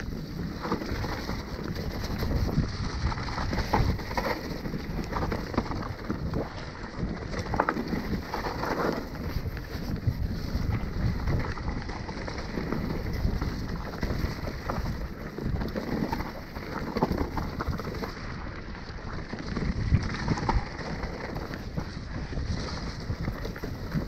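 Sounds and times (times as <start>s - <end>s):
bike rattling over bumps: 0.0s - 24.0s
bike tyres rolling on dirt: 0.0s - 24.0s
wind noise on microphone: 0.0s - 24.0s.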